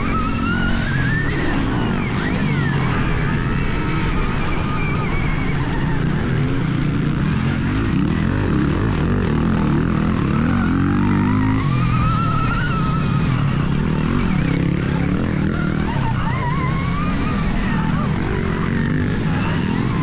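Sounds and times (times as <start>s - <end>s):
wind and drivetrain rumble: 0.0s - 20.0s.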